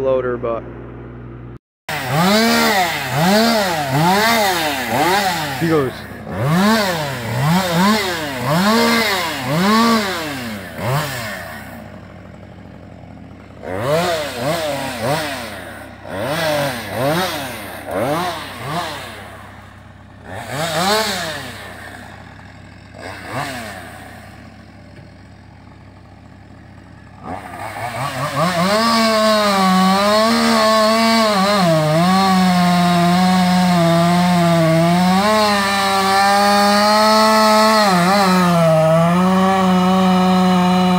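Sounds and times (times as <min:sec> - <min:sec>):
chainsaw cutting under load: 0:01.9 - 0:40.9
chainsaw revving: 0:01.9 - 0:40.9.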